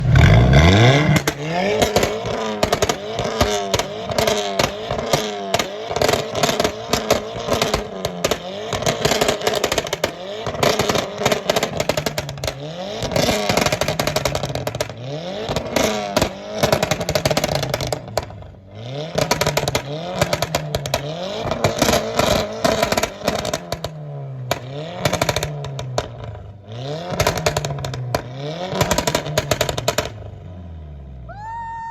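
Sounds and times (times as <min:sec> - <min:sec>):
car engine revving: 0:00.0 - 0:31.2.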